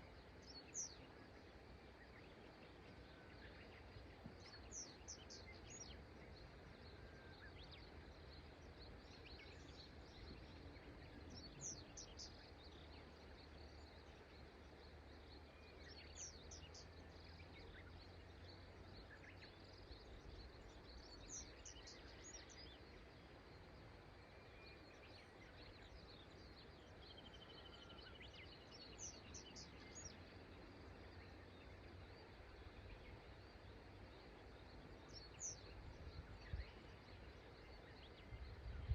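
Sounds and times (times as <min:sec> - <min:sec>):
small bird singing: 0:00.0 - 0:38.9.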